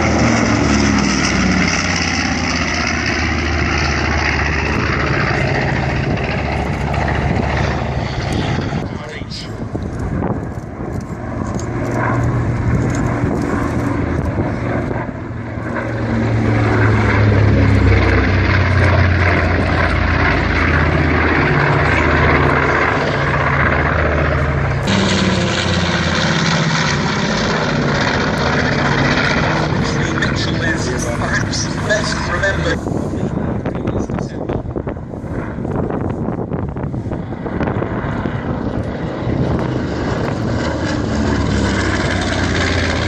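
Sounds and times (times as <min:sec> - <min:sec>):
aircraft radial engines flying past: 0:00.0 - 0:43.0.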